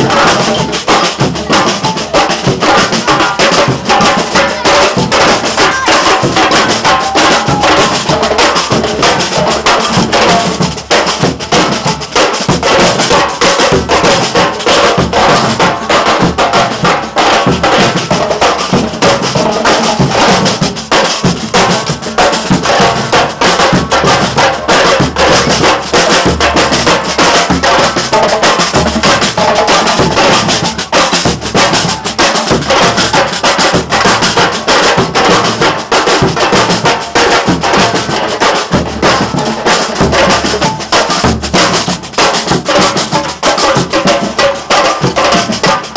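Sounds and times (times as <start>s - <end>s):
percussion ensemble drumming: 0.0s - 45.9s.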